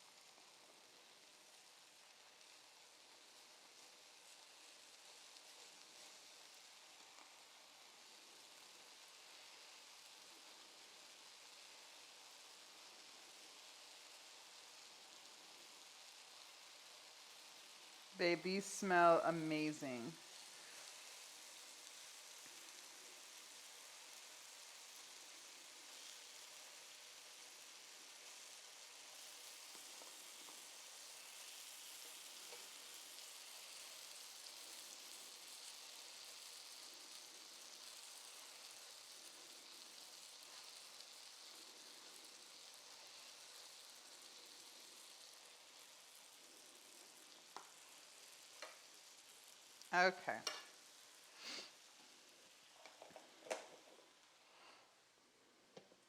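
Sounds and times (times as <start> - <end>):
pancakes sizzling in butter: 0.0 - 56.0.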